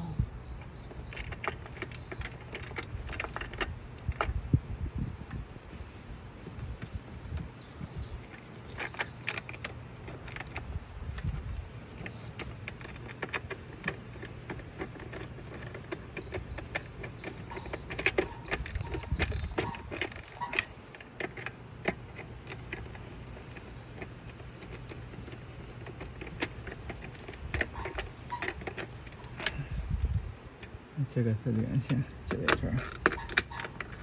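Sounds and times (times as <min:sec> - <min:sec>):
tools and wires rattling: 0:00.0 - 0:34.0.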